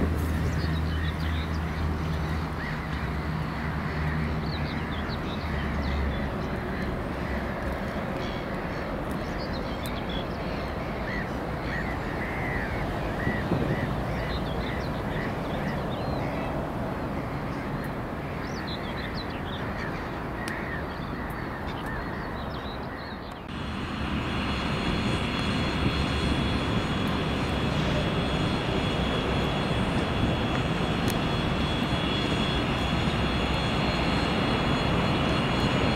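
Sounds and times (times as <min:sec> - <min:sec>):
electric train with high whine: 0:00.0 - 0:21.4, 0:23.4 - 0:35.9
birds chirping: 0:00.1 - 0:23.5, 0:24.4 - 0:35.9.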